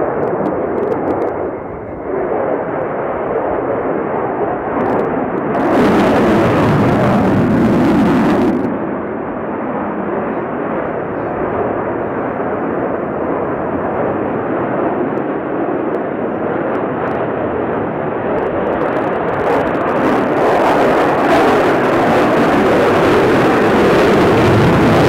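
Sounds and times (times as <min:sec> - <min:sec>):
jet engine roar overhead: 0:00.0 - 0:25.0.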